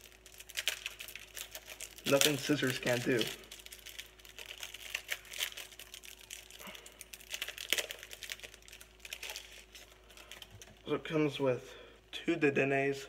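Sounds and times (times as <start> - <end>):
plastic packaging clicks and crinkles: 0.0 - 10.9.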